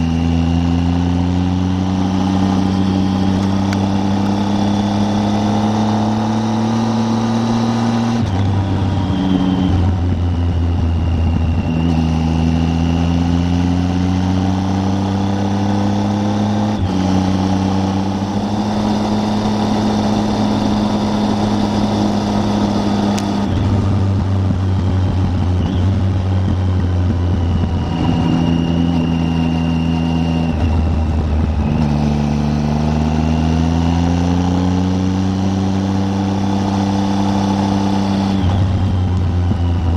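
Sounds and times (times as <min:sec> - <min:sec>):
motorcycle engine with gear changes: 0:00.0 - 0:39.9.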